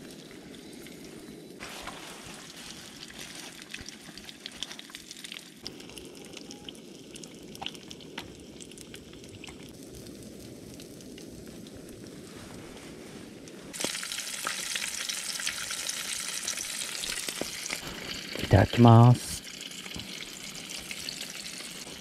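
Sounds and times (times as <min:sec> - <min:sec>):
crackles and pops: 0:00.0 - 0:18.5
fish frying in oil: 0:01.8 - 0:12.0, 0:13.7 - 0:22.0.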